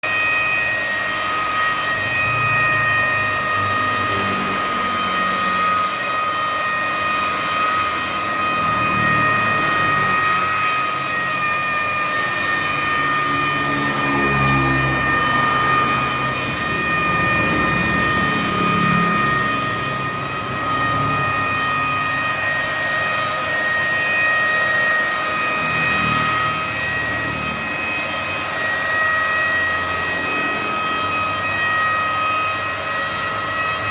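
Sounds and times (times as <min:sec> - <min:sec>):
paint polisher motor whine: 0:00.0 - 0:33.9.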